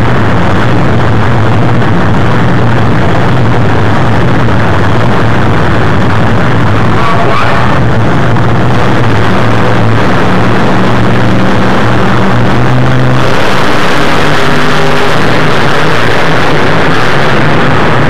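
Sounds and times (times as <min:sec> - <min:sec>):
truck engines revving loudly: 0:00.0 - 0:18.0.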